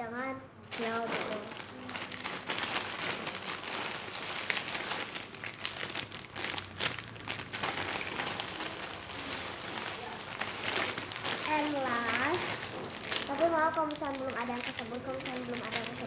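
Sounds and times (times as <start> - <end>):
plastic packaging crinkling: 0.7 - 16.0.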